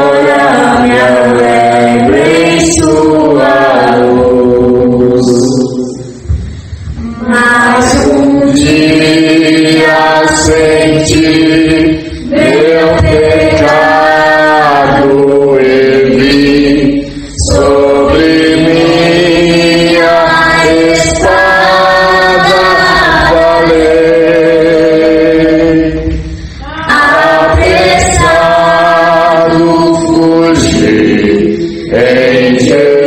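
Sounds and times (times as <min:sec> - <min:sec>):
voices singing a hymn: 0:00.0 - 0:33.0.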